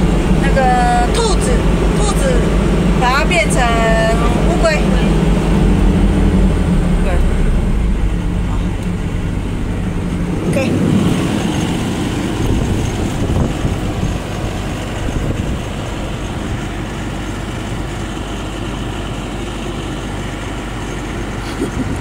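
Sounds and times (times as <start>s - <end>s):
harvester diesel engine running: 0.0s - 22.0s.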